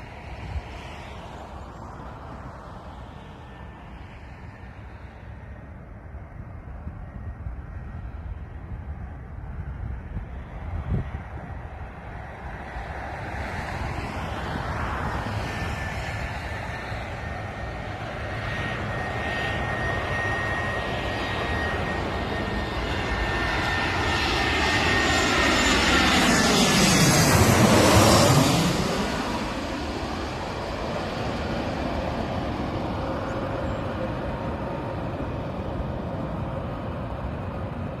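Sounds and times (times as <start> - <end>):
airliner engines whining overhead: 0.0 - 38.0.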